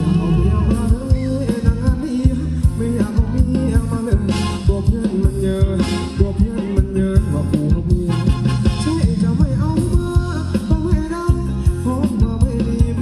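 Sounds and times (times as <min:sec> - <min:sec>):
live band dance music: 0:00.0 - 0:13.0.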